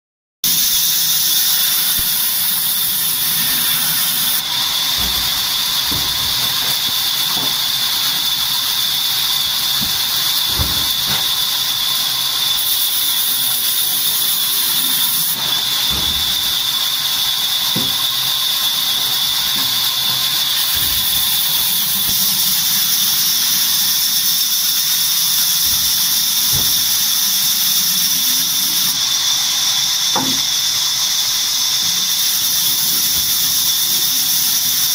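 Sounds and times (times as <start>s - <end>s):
band saw squealing through log: 0.4s - 34.9s.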